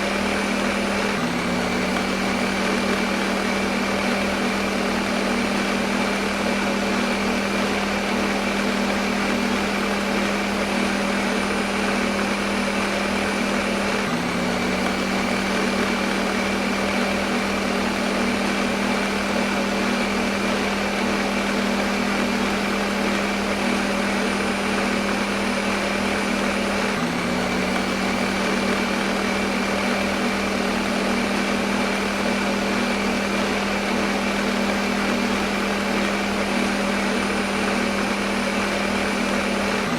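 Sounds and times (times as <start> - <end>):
electric blender motor whir: 0.0 - 39.9.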